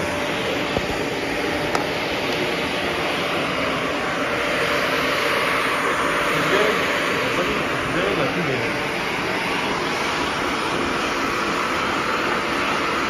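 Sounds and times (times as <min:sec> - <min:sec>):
vacuum cleaner on carpet: 0:00.0 - 0:13.0.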